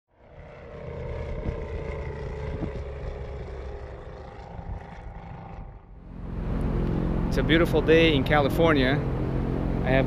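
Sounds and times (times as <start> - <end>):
light aircraft piston engine: 0.1 - 10.0.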